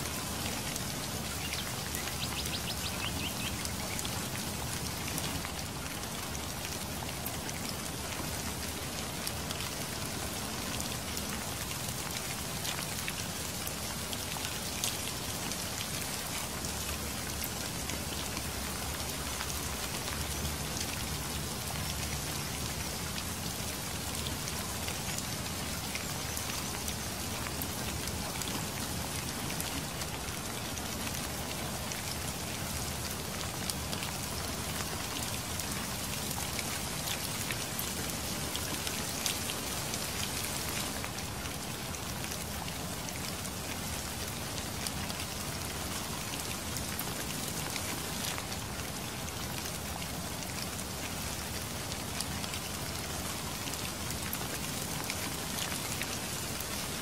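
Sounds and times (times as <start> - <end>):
rain hiss: 0.0 - 57.0
raindrops striking a surface: 0.0 - 57.0.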